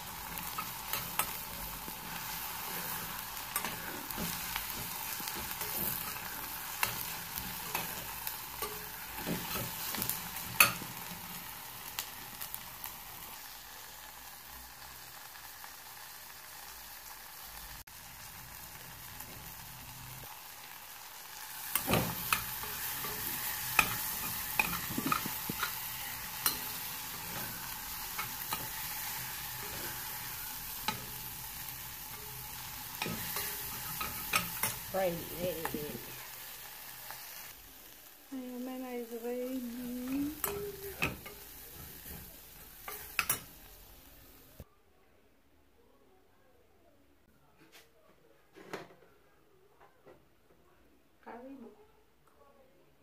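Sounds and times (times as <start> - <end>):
fish sizzling in a pot: 0.0 - 44.7.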